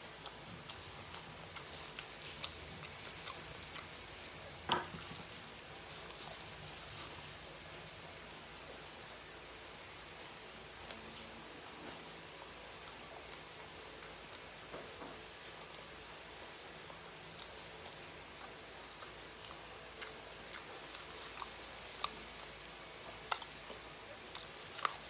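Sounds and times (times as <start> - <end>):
chewing crunchy fried chicken: 0.0 - 9.3, 10.7 - 14.7, 15.4 - 25.0.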